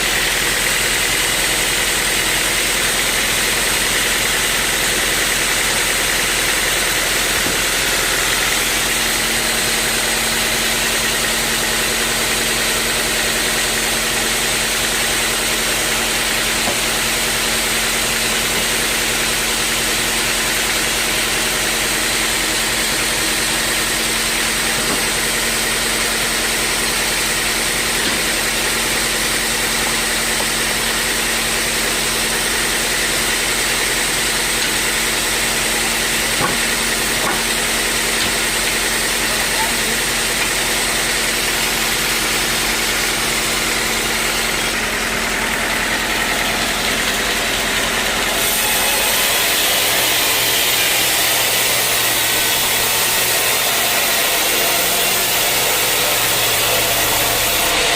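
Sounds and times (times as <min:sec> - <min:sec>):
sawmill machinery drone: 0:00.0 - 0:57.9.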